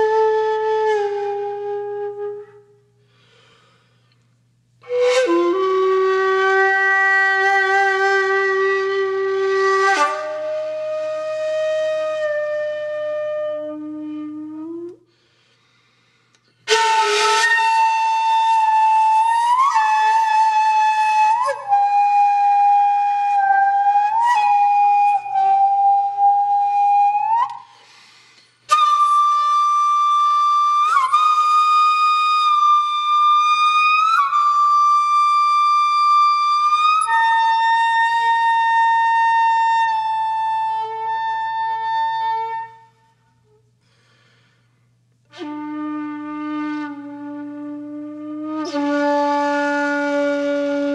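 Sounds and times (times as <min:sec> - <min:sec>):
slow solo flute melody: 0:00.0 - 0:15.3, 0:16.3 - 0:28.0, 0:28.6 - 0:50.9.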